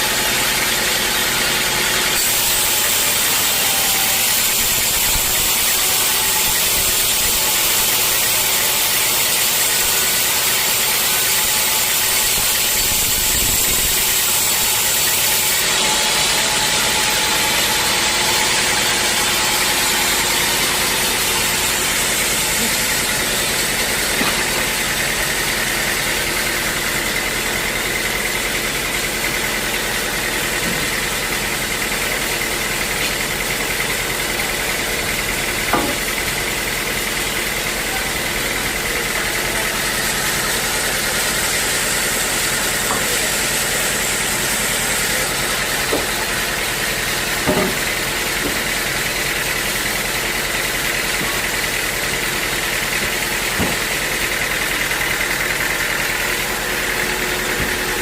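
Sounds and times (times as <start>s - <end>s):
sawmill machinery whining: 0.0s - 58.0s.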